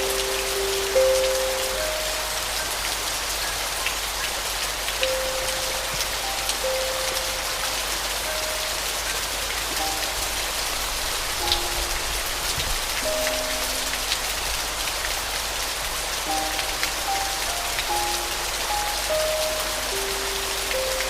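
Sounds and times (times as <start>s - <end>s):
soft piano notes: 0.0s - 3.0s, 5.0s - 15.4s, 16.1s - 21.0s
raindrop ticks: 0.0s - 21.0s
steady rain falling: 0.0s - 21.0s.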